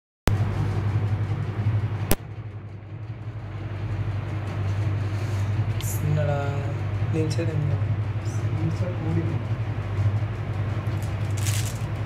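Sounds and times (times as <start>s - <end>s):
steady low hum: 0.3s - 12.0s.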